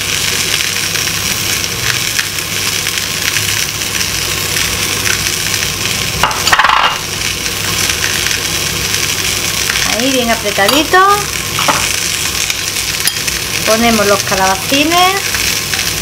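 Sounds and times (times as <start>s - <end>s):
fish sizzling in a frying pan: 0.0s - 16.0s.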